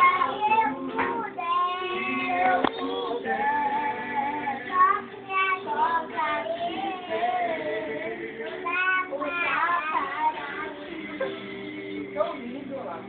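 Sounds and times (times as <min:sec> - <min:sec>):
girls singing: 0:00.0 - 0:12.5.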